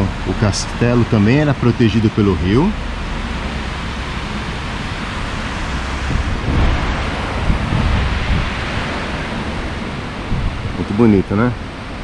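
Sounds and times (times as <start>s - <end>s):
river water over a weir: 0.0s - 12.0s
wind buffeting microphone: 0.0s - 12.0s.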